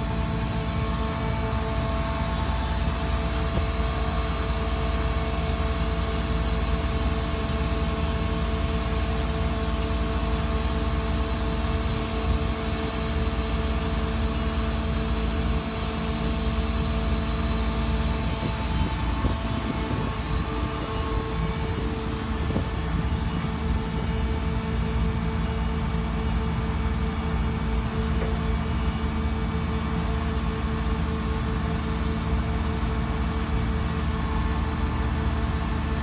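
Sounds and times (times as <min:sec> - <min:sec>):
shotcrete machine droning: 0:00.0 - 0:36.0.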